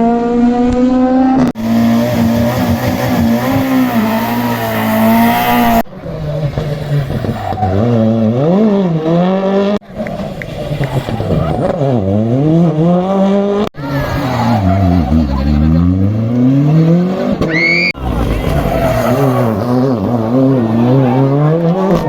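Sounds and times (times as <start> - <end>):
rally car engines revving: 0.0 - 22.0.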